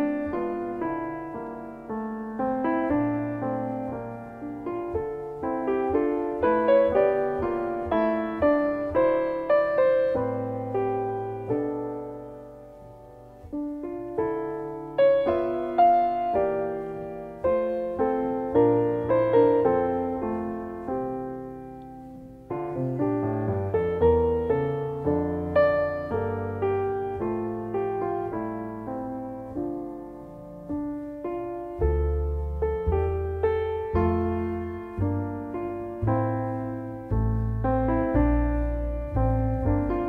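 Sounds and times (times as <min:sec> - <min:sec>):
gentle solo piano melody: 0:00.0 - 0:40.0.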